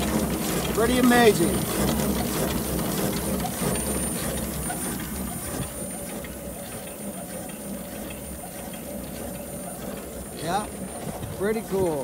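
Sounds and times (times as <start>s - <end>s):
steam car engine rumbling: 0.0s - 12.0s.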